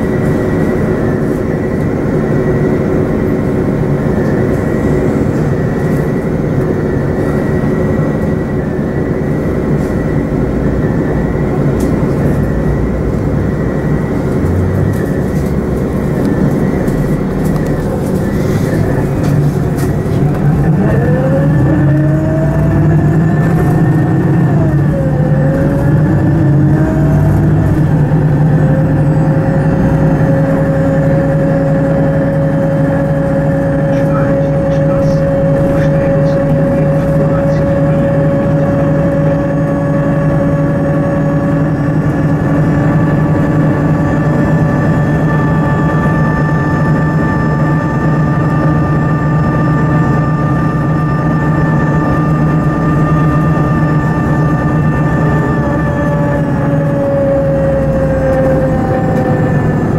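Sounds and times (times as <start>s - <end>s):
bus engine: 0.0s - 59.9s.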